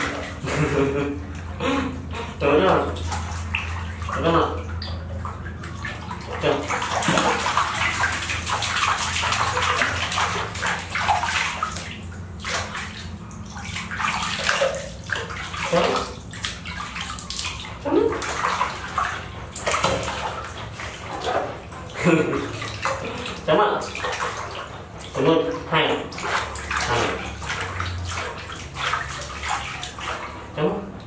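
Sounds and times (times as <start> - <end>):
water splashing in a plastic basin: 0.0 - 31.0.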